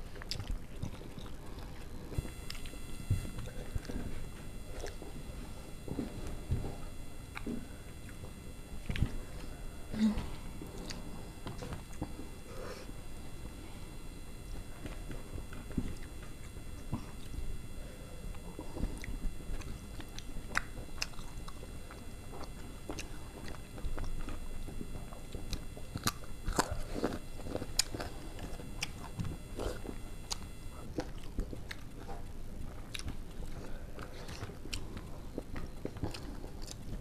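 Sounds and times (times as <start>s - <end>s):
people chewing food: 0.0s - 37.0s.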